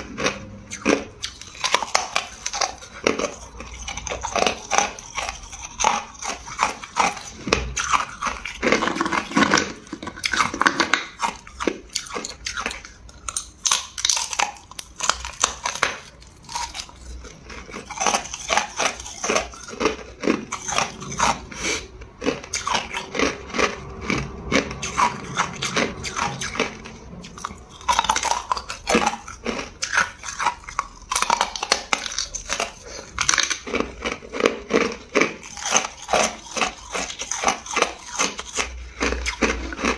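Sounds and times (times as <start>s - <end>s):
ice crunched between teeth: 0.2s - 39.9s.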